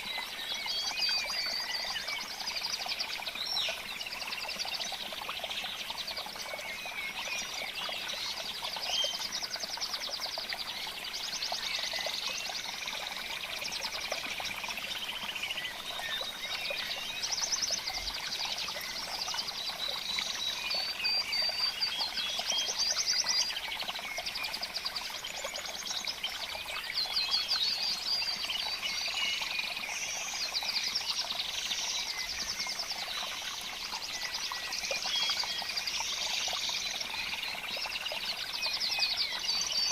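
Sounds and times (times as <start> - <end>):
small birds trilling and chirping: 0.0 - 39.9.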